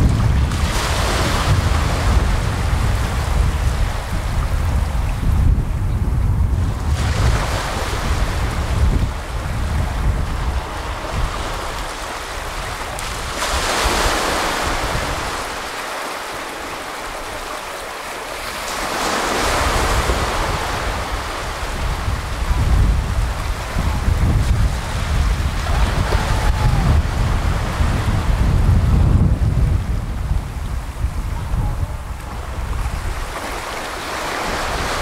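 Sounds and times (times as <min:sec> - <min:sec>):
wind buffeting microphone: 0:00.0 - 0:17.6, 0:18.3 - 0:35.0
waves breaking on shore: 0:00.0 - 0:35.0.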